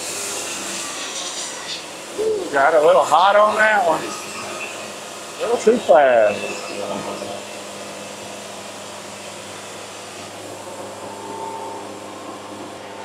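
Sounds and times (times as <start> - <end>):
dust collection blower rushing: 0.0 - 13.0
sawmill engine hum: 0.0 - 13.0.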